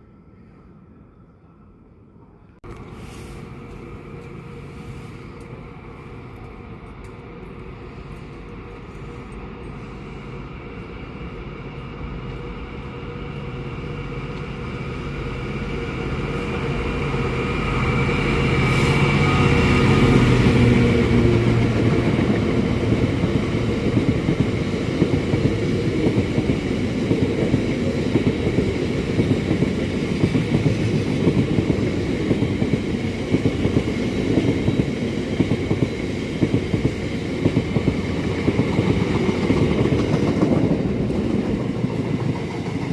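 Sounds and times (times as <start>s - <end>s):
train passing: 0.0s - 42.9s.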